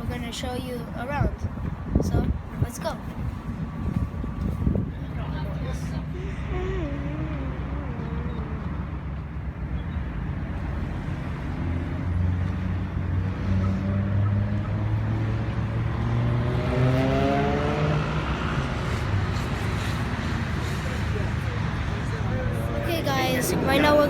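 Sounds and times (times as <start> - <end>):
street noise: 0.0 - 24.0.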